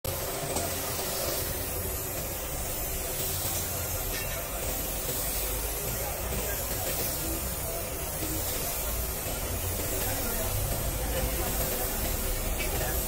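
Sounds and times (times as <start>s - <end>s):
paint spray gun hissing: 0.1s - 13.0s.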